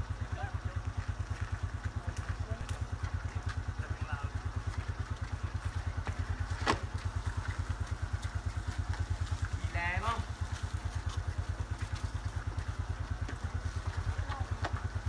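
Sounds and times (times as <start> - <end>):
motorbike engine idling: 0.0 - 15.0.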